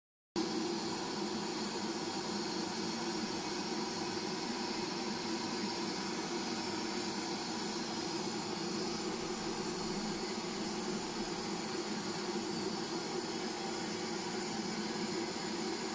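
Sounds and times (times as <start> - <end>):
blowtorch hissing: 0.5 - 15.9.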